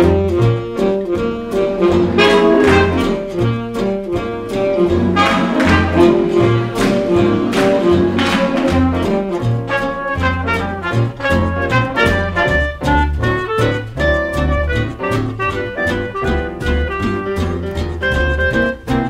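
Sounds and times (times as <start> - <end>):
big band swing music: 0.0 - 19.0.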